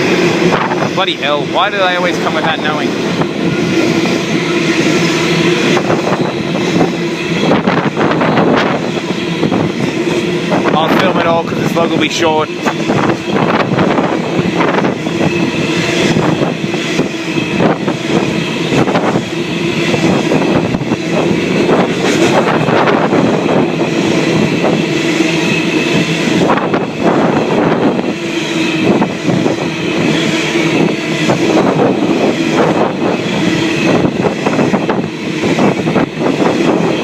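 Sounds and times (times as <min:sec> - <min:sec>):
train wagons rumbling: 0:00.0 - 0:37.0.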